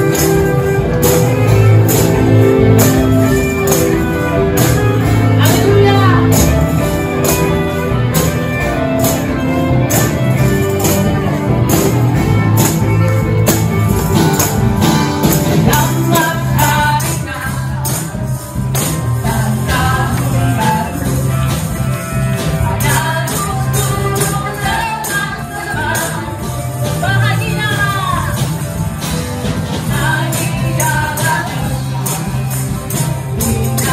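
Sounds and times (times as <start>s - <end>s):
church band with singers: 0.0s - 33.9s
tambourines struck and shaken: 0.0s - 33.9s.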